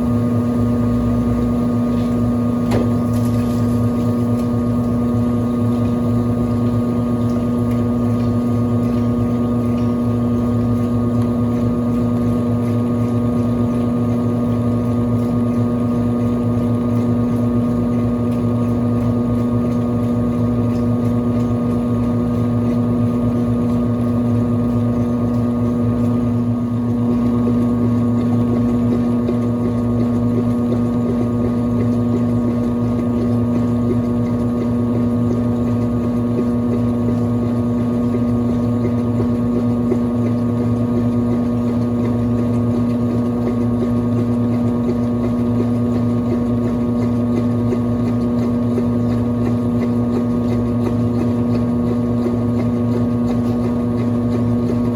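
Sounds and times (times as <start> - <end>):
washing machine motor humming: 0.0 - 54.9.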